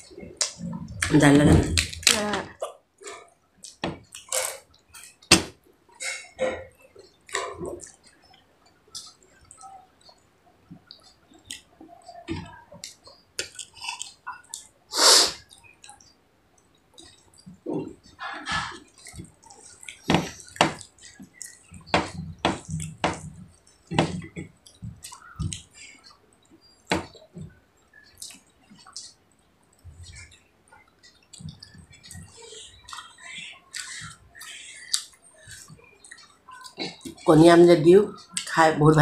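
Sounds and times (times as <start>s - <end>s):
chewing and lip smacks: 3.0s - 5.3s, 6.0s - 14.8s, 15.4s - 37.3s.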